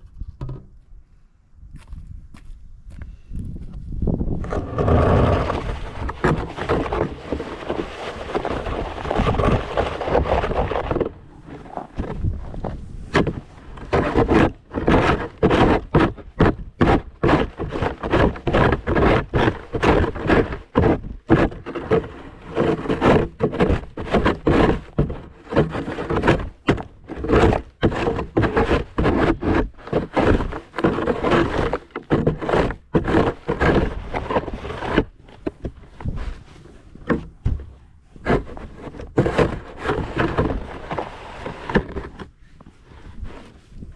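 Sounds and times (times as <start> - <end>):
snow shovel scraping and knocking: 4.3 - 43.9.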